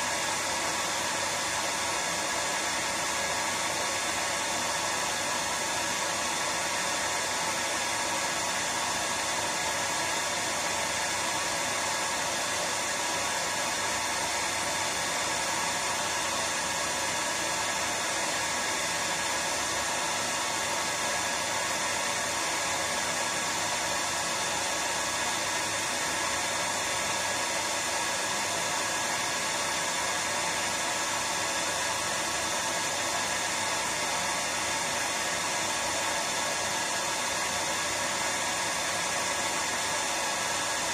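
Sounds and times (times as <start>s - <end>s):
hair dryer blowing air: 0.0s - 40.9s.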